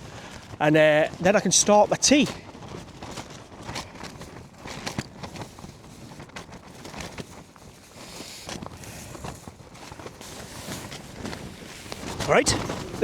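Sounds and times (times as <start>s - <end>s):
nylon fabric rustling: 0.0s - 13.0s
wind noise on microphone: 0.0s - 13.0s.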